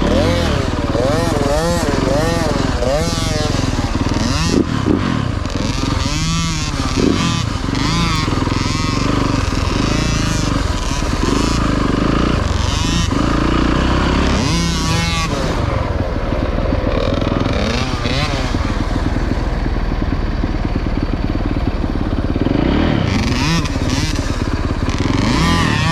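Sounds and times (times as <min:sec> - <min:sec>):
dirt bike engine revving: 0:00.0 - 0:25.9.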